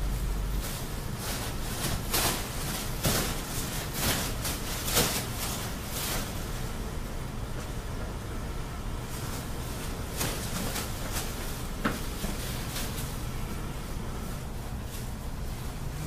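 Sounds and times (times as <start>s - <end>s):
plastic bag rustling: 0.0s - 6.9s, 9.0s - 16.0s
low steady hum: 0.0s - 16.0s.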